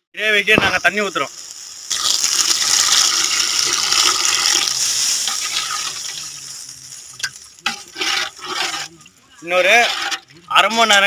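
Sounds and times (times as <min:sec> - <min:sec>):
water pouring into a pot: 0:00.8 - 0:11.0.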